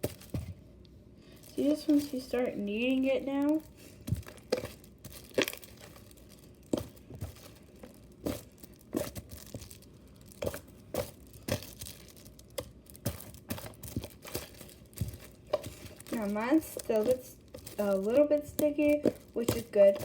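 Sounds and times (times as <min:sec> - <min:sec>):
sticky slime popping and crackling: 0:01.4 - 0:20.0.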